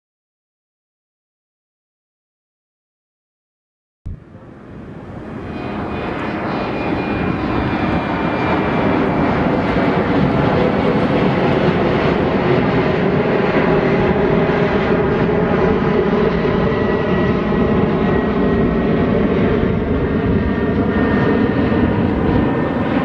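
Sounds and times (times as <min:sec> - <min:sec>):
engine drone with high whine: 0:04.1 - 0:23.0.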